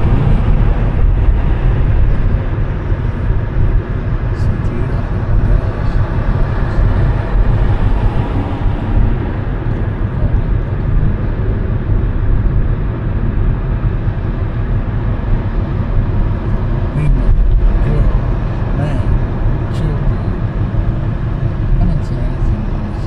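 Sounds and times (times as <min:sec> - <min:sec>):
car interior road rumble: 0:00.0 - 0:23.0.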